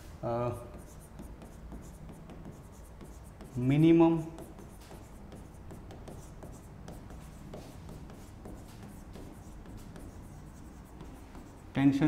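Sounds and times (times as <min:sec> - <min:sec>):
low room hum: 0:00.0 - 0:12.0
pen scratching on whiteboard: 0:00.5 - 0:12.0.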